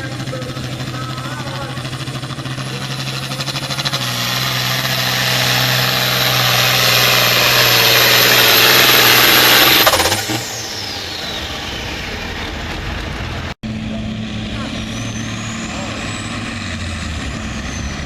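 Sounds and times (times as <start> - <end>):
diesel tractor engine at full throttle: 0.0 - 18.0.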